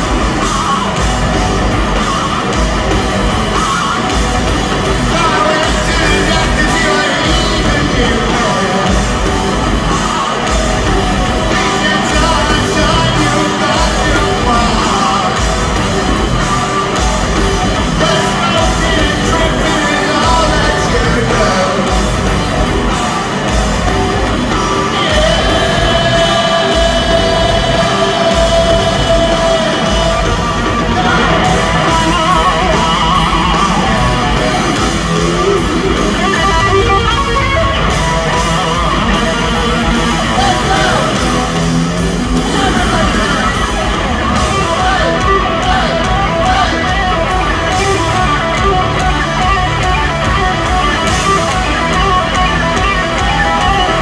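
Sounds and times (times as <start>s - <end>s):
bass guitar: 0.0s - 54.0s
distorted electric guitars: 0.0s - 54.0s
drums: 0.0s - 54.0s.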